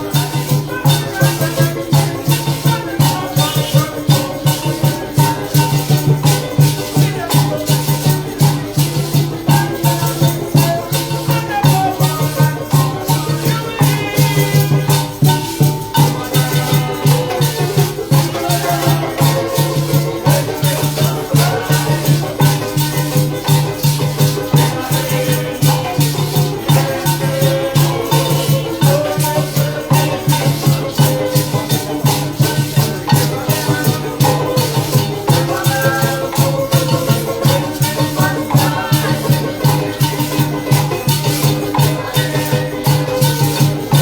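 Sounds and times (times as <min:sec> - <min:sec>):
maracas shaking: 0:00.0 - 0:44.0.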